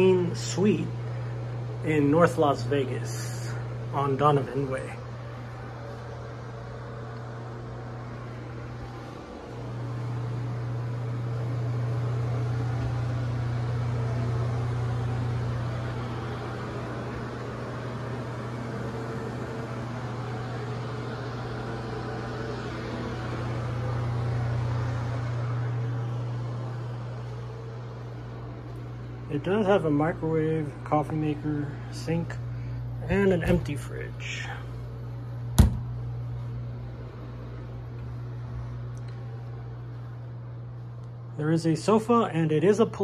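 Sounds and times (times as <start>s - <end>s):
air-handling fan humming: 0.0s - 43.0s.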